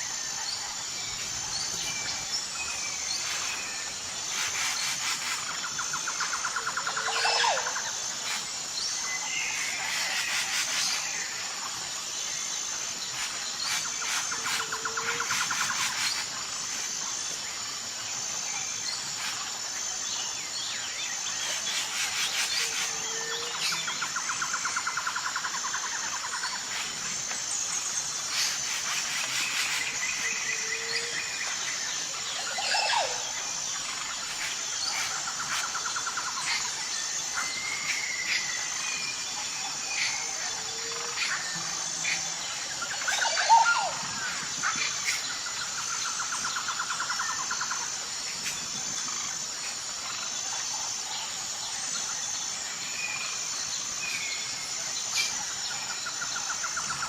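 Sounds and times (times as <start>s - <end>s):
pulsing insect drone: 0.0s - 57.0s.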